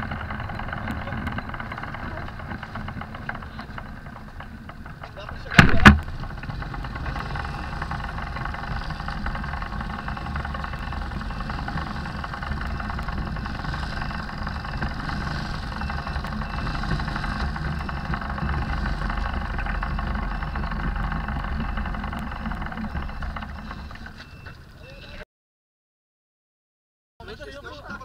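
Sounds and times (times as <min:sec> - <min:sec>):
motorcycle engine idling: 0:00.0 - 0:25.2
other motorcycle engines running: 0:00.0 - 0:25.2.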